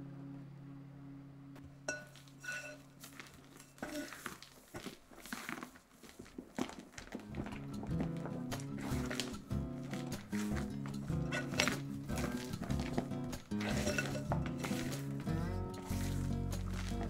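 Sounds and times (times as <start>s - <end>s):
spatula scraping and squelching foam: 2.2s - 17.0s.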